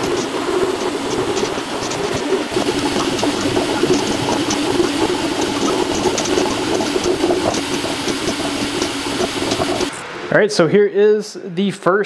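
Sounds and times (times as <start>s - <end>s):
printer mechanical whirring: 0.0s - 10.0s.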